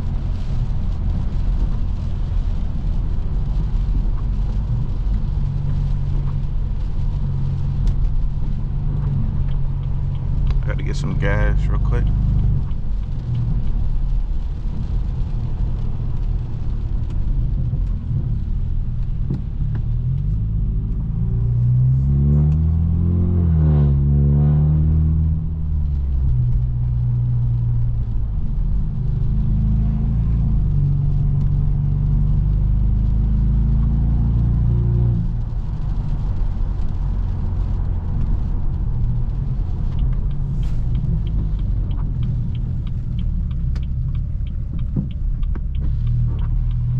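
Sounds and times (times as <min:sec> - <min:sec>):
car engine exhaust drone: 0:00.0 - 0:46.9.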